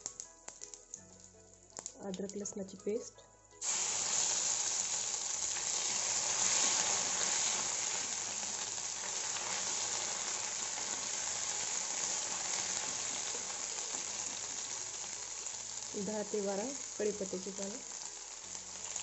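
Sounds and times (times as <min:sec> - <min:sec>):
garlic sizzling in hot oil: 0:00.0 - 0:02.6, 0:03.5 - 0:19.0.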